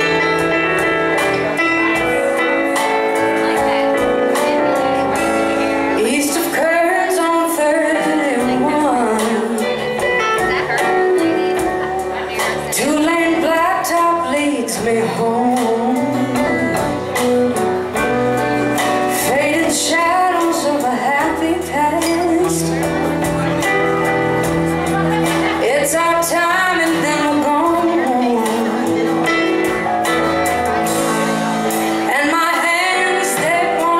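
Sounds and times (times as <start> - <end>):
live band playing: 0.0 - 33.9
woman singing lead: 0.0 - 33.9.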